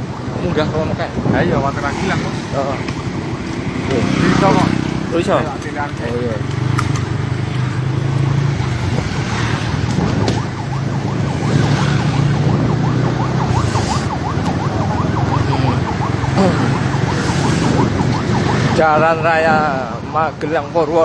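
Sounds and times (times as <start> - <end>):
siren yelping: 0.0 - 20.4
vehicle engine humming: 1.1 - 20.5.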